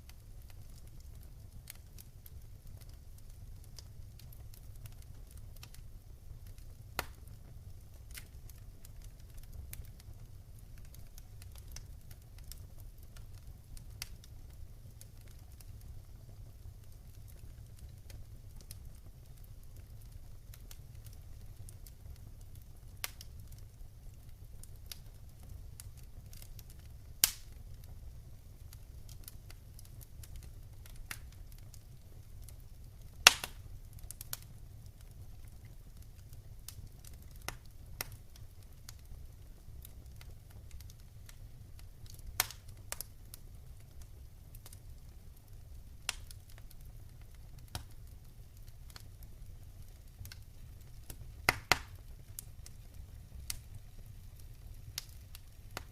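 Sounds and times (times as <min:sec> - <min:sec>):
rumble of flames: 0:00.0 - 0:55.9
wood fire crackling and popping: 0:00.0 - 0:55.9.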